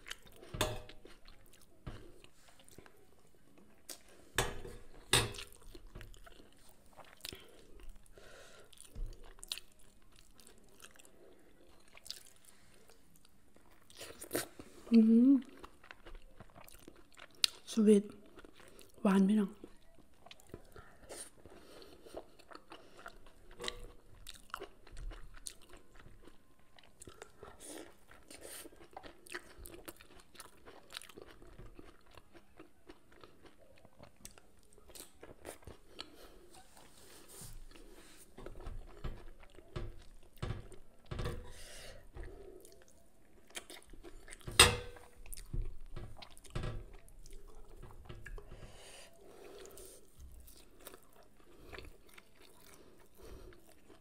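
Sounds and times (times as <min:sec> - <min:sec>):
person chewing fried food: 0:00.0 - 0:14.7, 0:15.4 - 0:19.0, 0:19.6 - 0:54.0.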